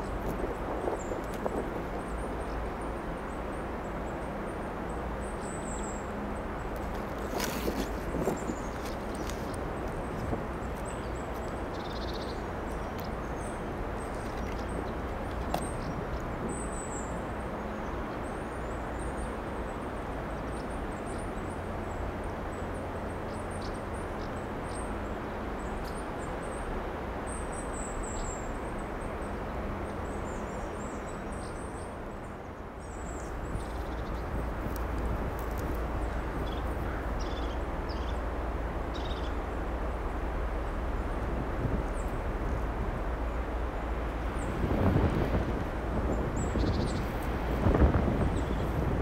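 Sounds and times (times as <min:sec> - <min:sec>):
small birds twittering: 0:00.0 - 0:26.7, 0:27.3 - 0:42.6, 0:43.2 - 0:49.0
outdoor background noise: 0:00.0 - 0:49.0.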